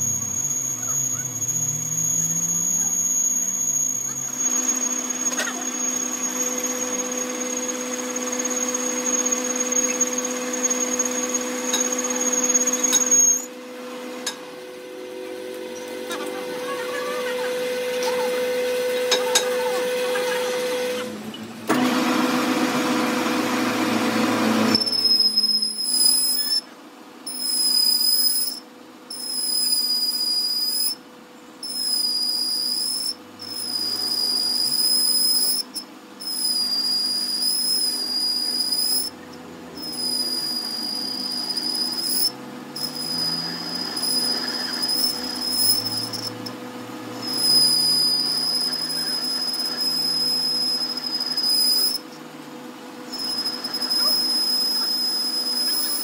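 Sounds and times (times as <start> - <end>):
lathe tool squealing on steel: 0.0 - 21.2, 23.2 - 26.7, 27.3 - 31.0, 31.6 - 52.2, 53.0 - 56.0
lathe humming: 0.0 - 26.5, 31.7 - 56.0.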